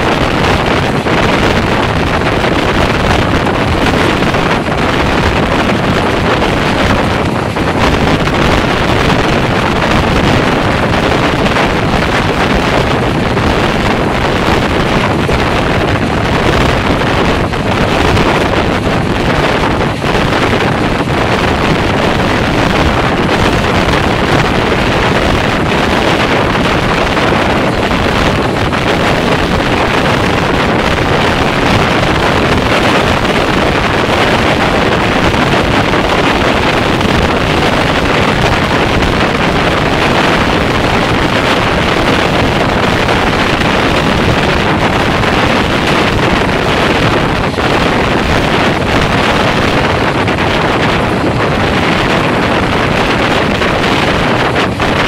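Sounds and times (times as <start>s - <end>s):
train running noise: 0.0s - 55.0s
wind rushing over microphone: 0.0s - 55.0s.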